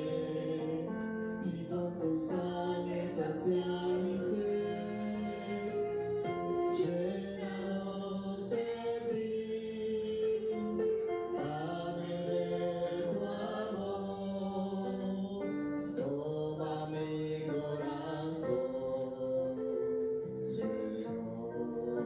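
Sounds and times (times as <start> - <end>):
church music sustained chords: 0.0 - 22.0.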